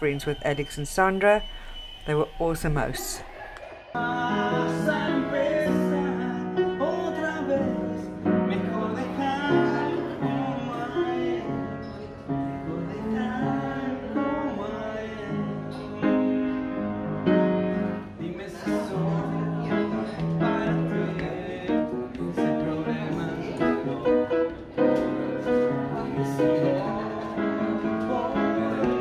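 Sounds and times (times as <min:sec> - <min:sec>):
person singing: 0:04.0 - 0:16.7, 0:17.8 - 0:29.0
upright piano playing: 0:04.0 - 0:29.0.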